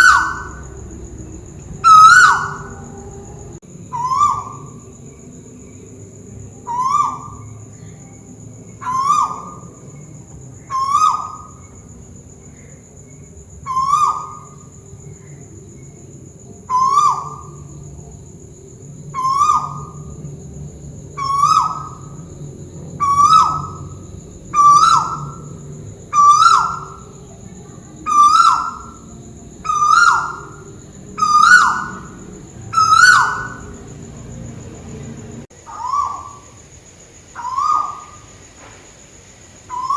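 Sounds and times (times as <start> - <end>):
owl hooting: 0.0 - 5.2, 6.5 - 11.9, 13.6 - 15.5, 16.6 - 18.1, 19.1 - 20.3, 21.0 - 36.7, 37.4 - 38.3, 39.7 - 39.9.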